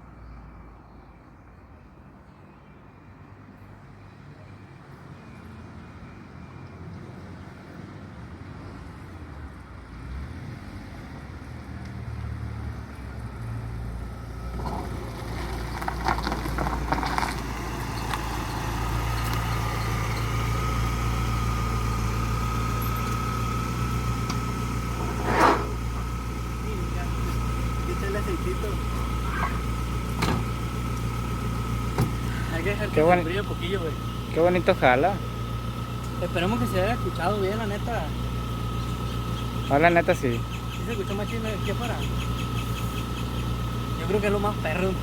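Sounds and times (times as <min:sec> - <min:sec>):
car engine with high whine: 0:08.5 - 0:45.0.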